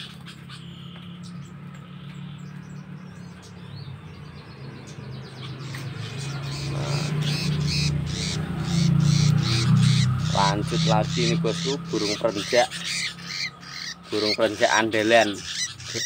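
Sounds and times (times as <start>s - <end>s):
birds chirping harshly: 0.0s - 16.0s.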